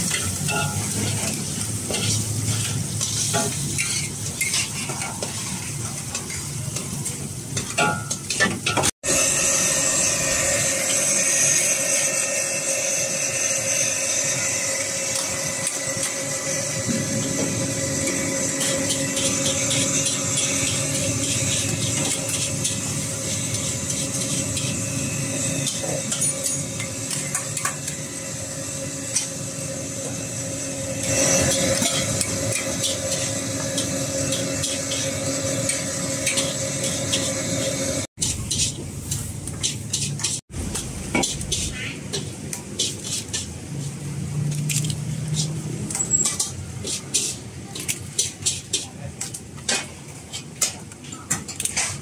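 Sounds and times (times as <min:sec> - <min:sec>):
metal ladle scraping a wok: 0:00.0 - 0:06.4, 0:09.1 - 0:43.9, 0:44.6 - 0:50.8
noodles sizzling in a wok: 0:00.0 - 0:07.7, 0:09.1 - 0:44.3.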